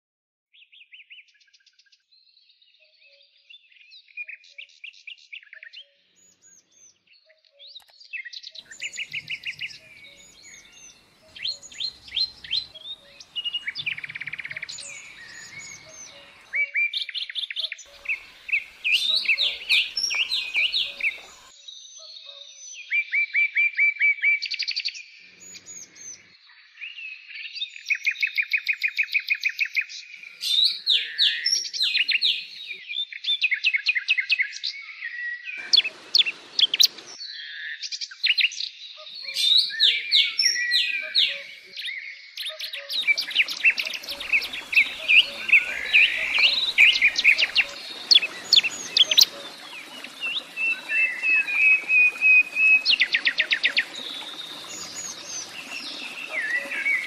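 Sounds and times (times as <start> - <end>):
songbirds singing: 0.6 - 57.0.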